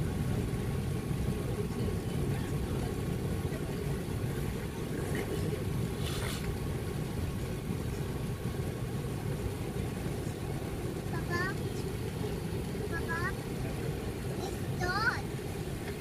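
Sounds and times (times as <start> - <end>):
aircraft cabin low rumble: 0.0 - 16.0
engine whine: 0.0 - 16.0.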